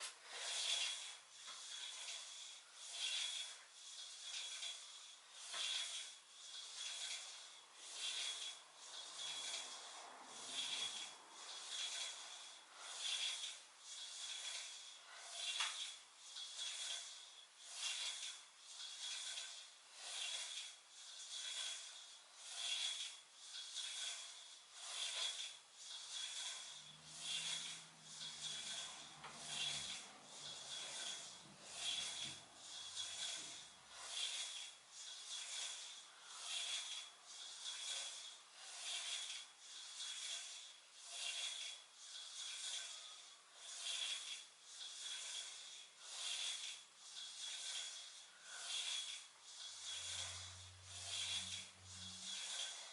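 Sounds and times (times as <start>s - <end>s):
rhythmic rubbing: 0.0s - 52.9s.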